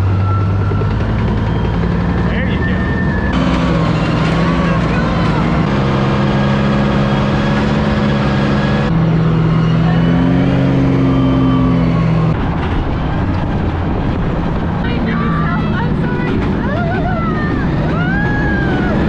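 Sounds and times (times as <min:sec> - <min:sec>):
tank engine running: 0:00.0 - 0:19.0
tank track noise: 0:00.0 - 0:19.0.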